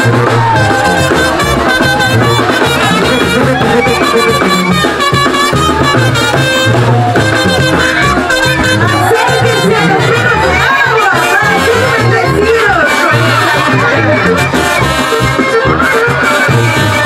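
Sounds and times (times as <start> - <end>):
brass band playing: 0.0 - 17.0
drum: 0.0 - 17.0
sousaphone bass line: 0.0 - 17.0.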